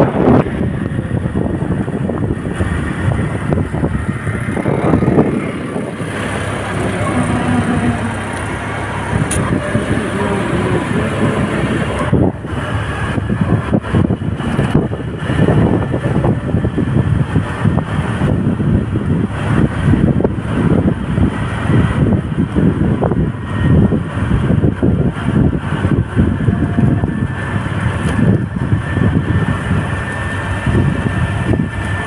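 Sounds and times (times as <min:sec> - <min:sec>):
vehicle road noise: 0:00.0 - 0:32.0
wind buffeting microphone: 0:00.0 - 0:32.0.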